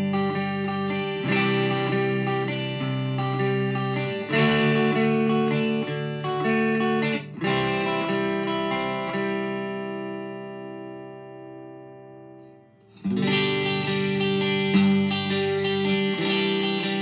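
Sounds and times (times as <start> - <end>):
clean electric guitar chords: 0.0 - 17.0.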